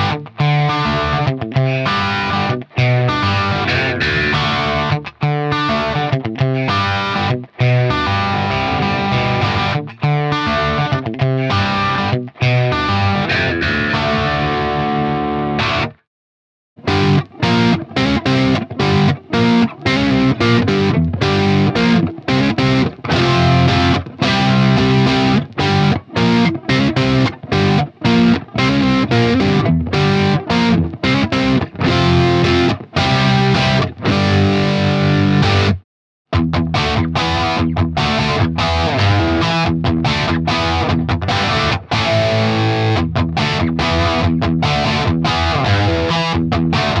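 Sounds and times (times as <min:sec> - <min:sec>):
electric guitar chords and riffs: 0:00.0 - 0:16.1, 0:16.8 - 0:47.0.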